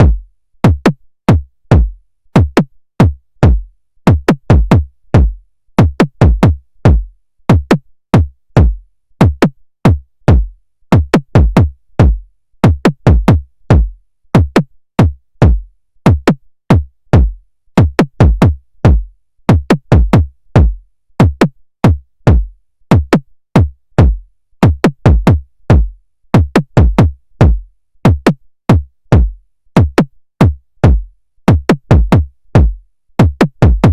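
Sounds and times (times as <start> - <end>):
electronic kick drum hits: 0.0 - 33.9.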